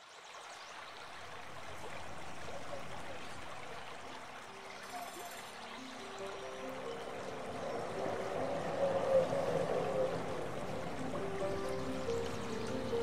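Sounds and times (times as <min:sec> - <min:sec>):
flowing water rushing: 0:00.0 - 0:13.0
faint sustained music notes: 0:01.6 - 0:13.0.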